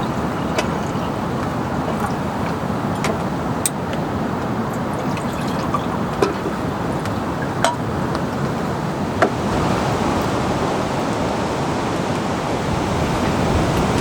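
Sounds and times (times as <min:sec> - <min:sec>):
rushing water: 0:00.0 - 0:14.0
steady rain: 0:00.0 - 0:14.0.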